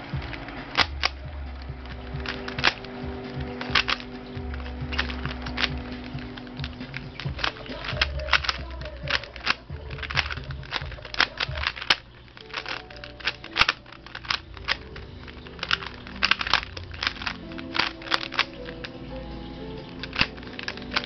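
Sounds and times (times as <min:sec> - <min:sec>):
puzzle cube plastic clicks: 0:00.0 - 0:21.0.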